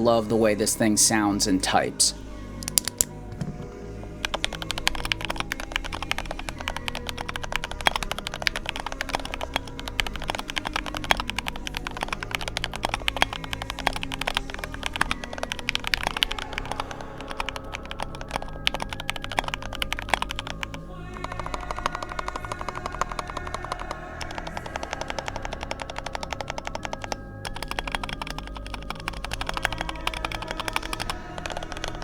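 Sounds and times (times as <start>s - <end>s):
mechanical keyboard typing: 2.6s - 32.0s.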